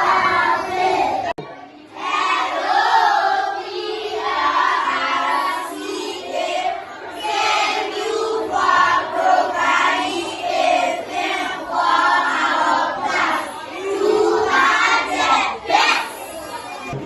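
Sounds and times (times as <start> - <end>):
children singing in unison: 0.0 - 17.0.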